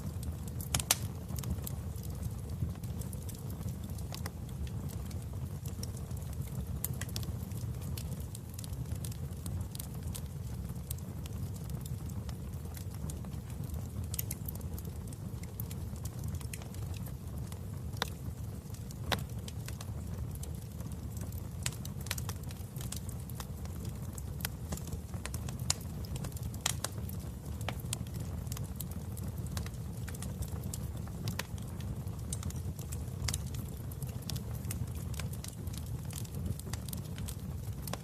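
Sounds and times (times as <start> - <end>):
fire crackling and popping: 0.0 - 38.0
fire flames rumbling: 0.0 - 38.0.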